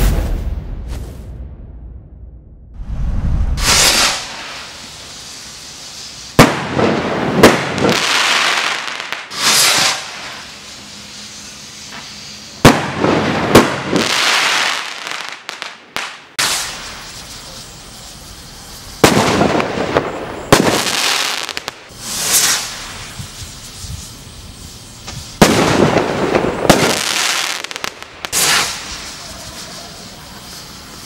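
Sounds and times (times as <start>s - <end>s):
firework double bang: 0.0s - 10.7s, 11.9s - 17.6s, 18.9s - 24.2s, 25.0s - 29.9s
rockets launching with a whoosh: 0.0s - 15.2s, 16.4s - 17.6s, 19.0s - 30.2s
crackling hiss: 2.8s - 31.0s.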